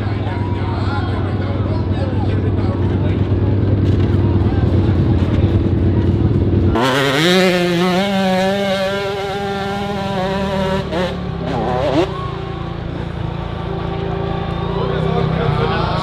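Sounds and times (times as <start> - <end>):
dirt bike engine revving: 1.0 - 16.0.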